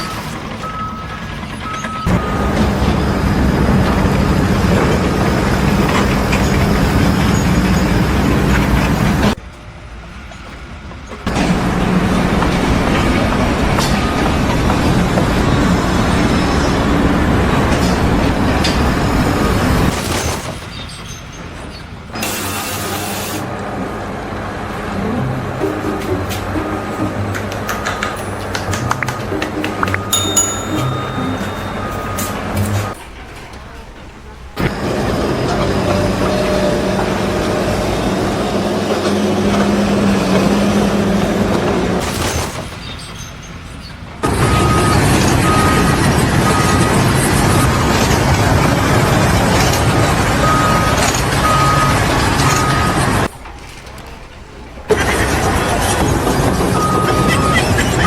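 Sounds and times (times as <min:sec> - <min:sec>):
heavy vehicle rumbling: 0:00.0 - 0:30.2, 0:30.9 - 0:58.0.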